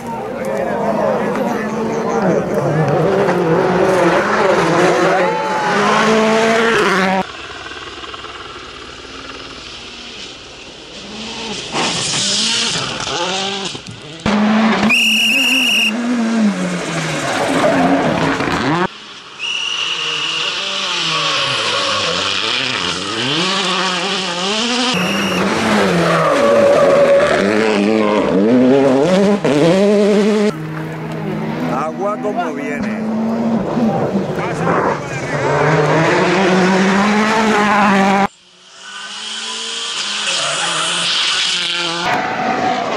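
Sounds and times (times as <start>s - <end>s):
rally cars revving past: 0.8s - 7.3s, 10.9s - 19.0s, 19.7s - 42.9s.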